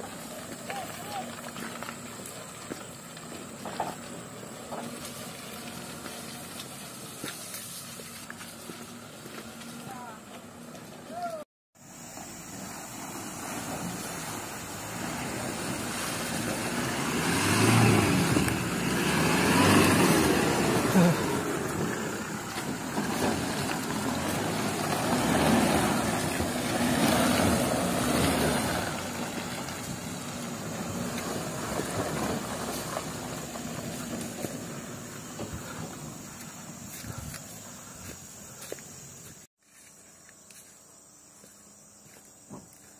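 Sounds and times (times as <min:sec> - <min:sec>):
pickup engine under load: 0:00.0 - 0:11.2, 0:11.8 - 0:39.5
tyres churning through mud: 0:00.0 - 0:39.6.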